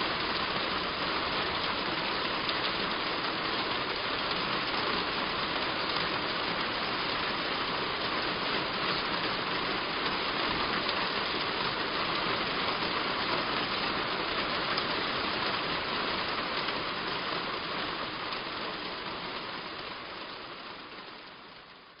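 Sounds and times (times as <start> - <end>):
heavy rain on a roof: 0.0 - 22.0.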